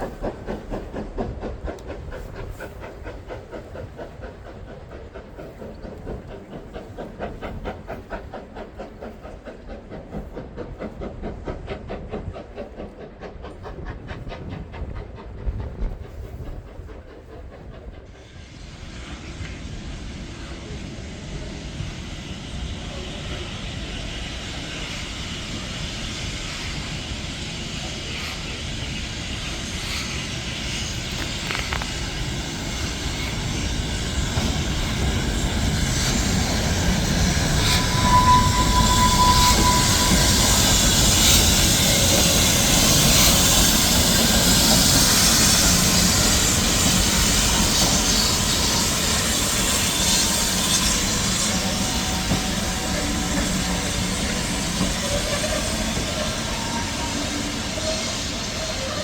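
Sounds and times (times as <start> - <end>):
steam train rumbling past: 0.0 - 59.0.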